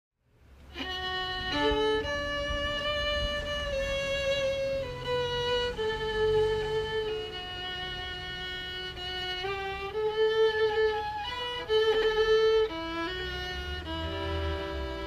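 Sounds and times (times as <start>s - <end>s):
slow fiddle tune: 0.4s - 15.0s.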